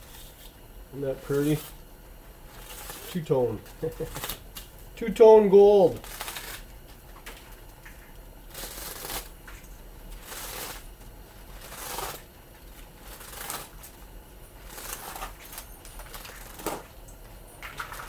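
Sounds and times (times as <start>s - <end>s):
scratchy rustling of unwound wire: 0.0s - 0.6s, 1.2s - 1.8s, 2.4s - 17.0s.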